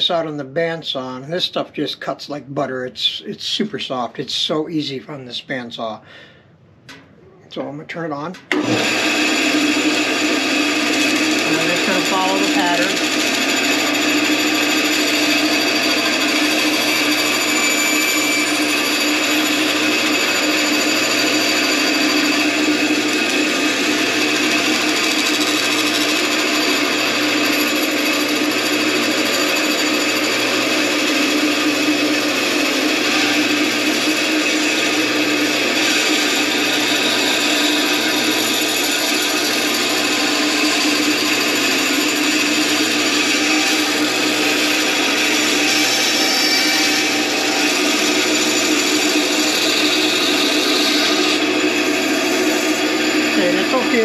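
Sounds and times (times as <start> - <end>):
bandsaw cutting plastic: 8.5 - 54.0.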